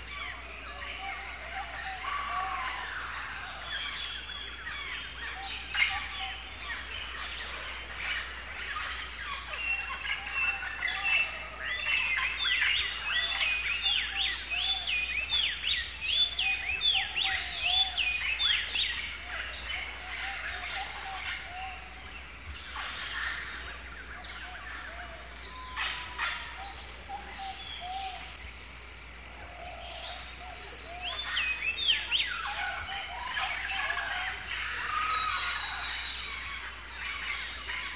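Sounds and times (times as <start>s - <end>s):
birds chirping and whistling: 0.1s - 37.9s.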